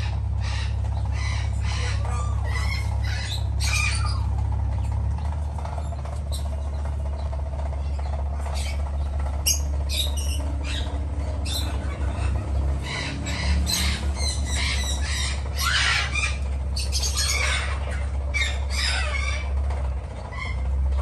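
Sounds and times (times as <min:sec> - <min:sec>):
squeaky animal calls: 0:00.0 - 0:05.0, 0:07.9 - 0:19.6, 0:20.2 - 0:20.8
steady low hum: 0:00.0 - 0:21.0.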